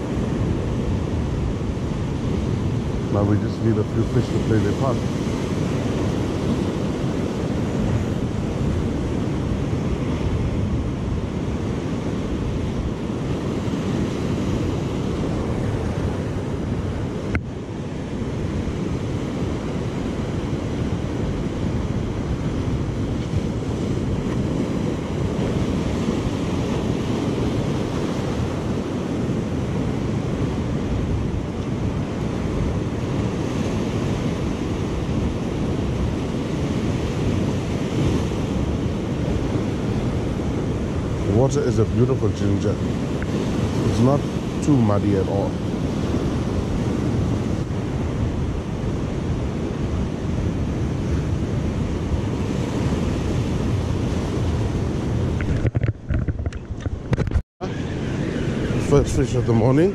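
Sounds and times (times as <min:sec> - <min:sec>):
surf breaking on rocky shore: 0:00.0 - 0:59.9
wind buffeting microphone: 0:00.0 - 0:59.9.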